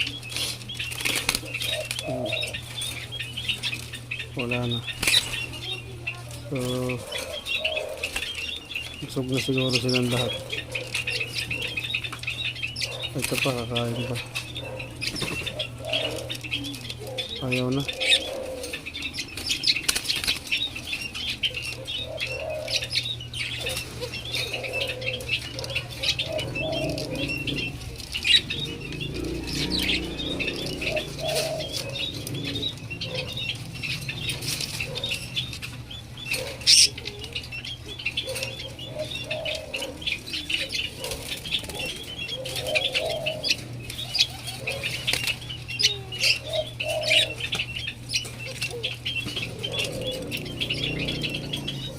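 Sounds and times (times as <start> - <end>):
doves fluttering: 0.0 - 51.9
steady low hum: 0.0 - 51.9.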